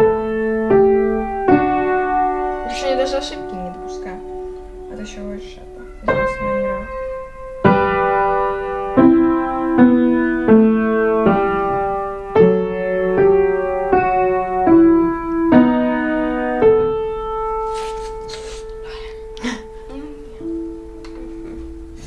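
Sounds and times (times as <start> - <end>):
piano chords played slowly: 0.0 - 22.0.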